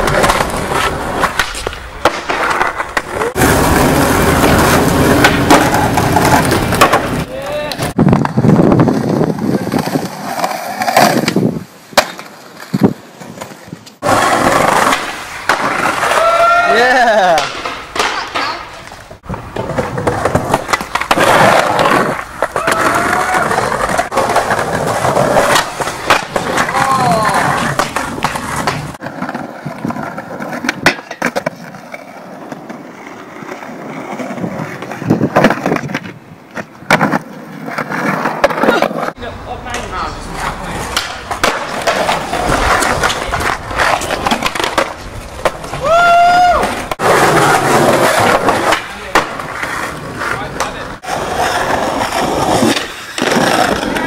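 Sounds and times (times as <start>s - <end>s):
skateboard clacks: 0.0s - 54.0s
skateboard scraping: 0.0s - 54.0s
skateboard wheels rolling on concrete: 0.0s - 54.0s.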